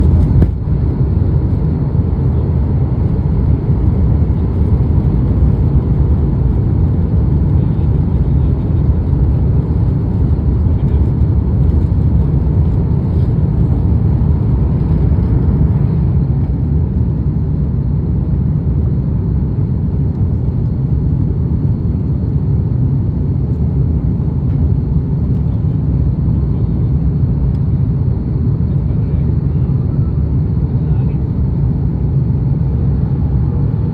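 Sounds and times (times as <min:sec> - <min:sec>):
airplane cabin rumble: 0:00.0 - 0:33.9.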